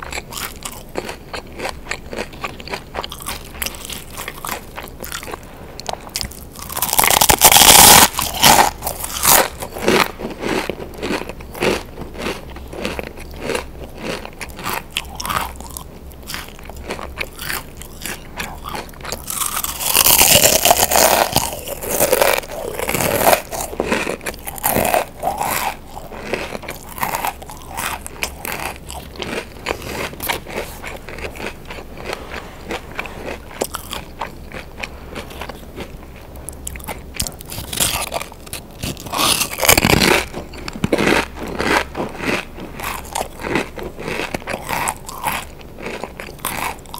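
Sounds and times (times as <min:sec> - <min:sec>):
crisps crunching bites: 0:00.0 - 0:46.9
crunching chews: 0:00.0 - 0:46.9.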